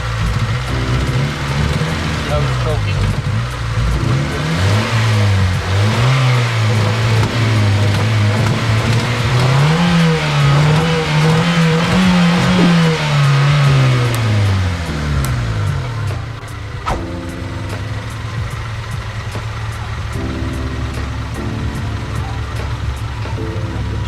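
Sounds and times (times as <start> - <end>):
rough car engine revving: 0.0 - 24.0.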